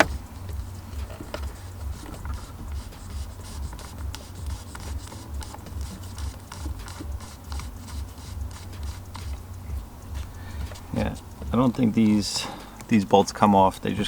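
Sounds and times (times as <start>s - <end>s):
low pulsing hum: 0.0s - 11.6s.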